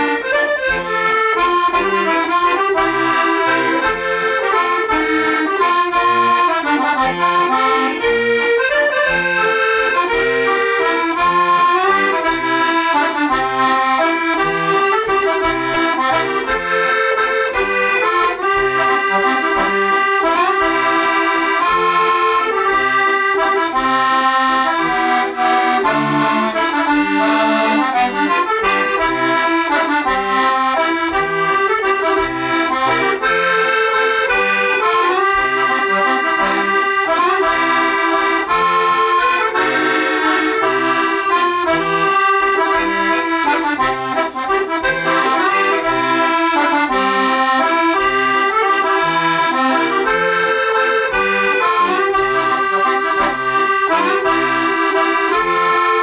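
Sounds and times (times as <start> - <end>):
accordion waltz: 0.0 - 56.0.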